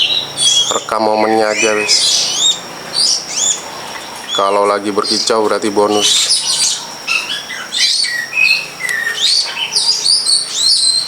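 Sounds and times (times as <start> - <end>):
shrike singing: 0.0 - 11.0.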